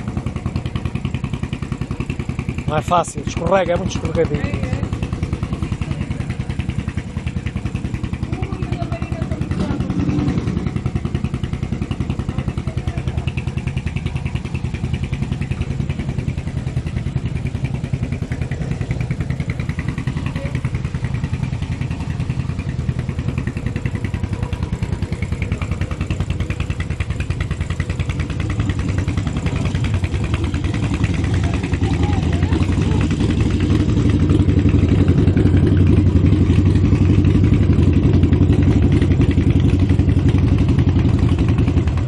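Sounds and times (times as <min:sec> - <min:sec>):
motorcycle engine idling: 0:00.0 - 0:42.0.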